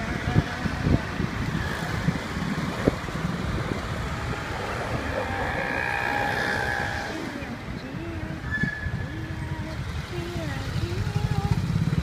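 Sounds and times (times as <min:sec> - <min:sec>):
street traffic noise: 0:00.0 - 0:12.0
wind buffeting microphone: 0:00.0 - 0:12.0.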